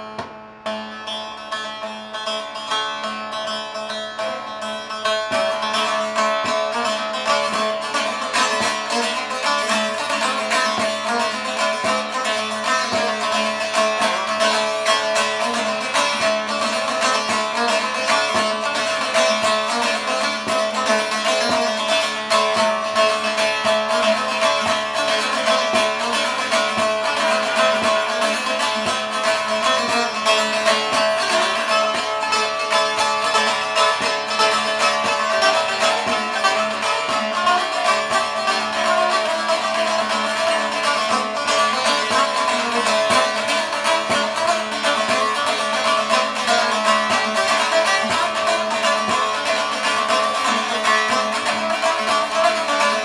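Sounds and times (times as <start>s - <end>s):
long-necked lute playing: 0.0s - 53.0s.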